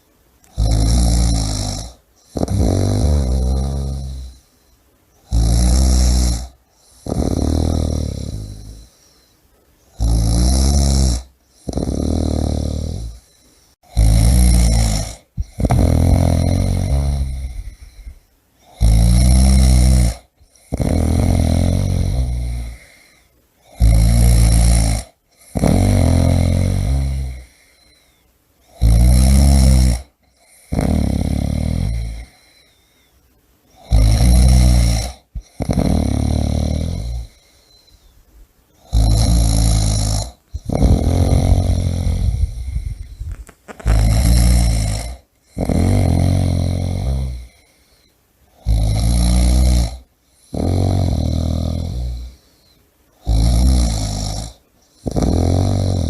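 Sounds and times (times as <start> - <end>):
person snoring: 0.4 - 4.5, 5.2 - 9.3, 9.9 - 33.0, 33.7 - 38.1, 38.8 - 56.0.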